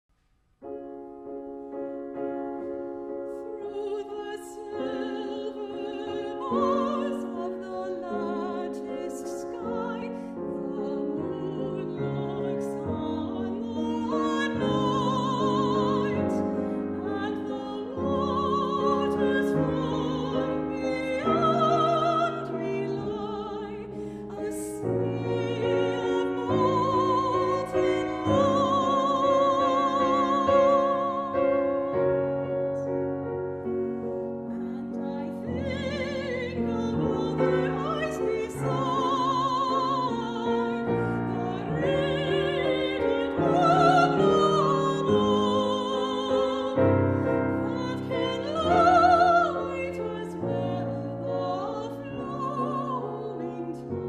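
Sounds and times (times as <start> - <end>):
piano accompaniment: 0.6 - 54.0
soprano singing with vibrato: 3.3 - 33.2, 34.0 - 54.0.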